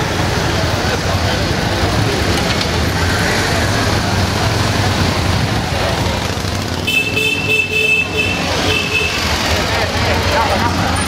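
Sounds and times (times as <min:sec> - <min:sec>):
crowd noise: 0:00.0 - 0:11.0
motorcycle engines rumbling: 0:00.0 - 0:11.0.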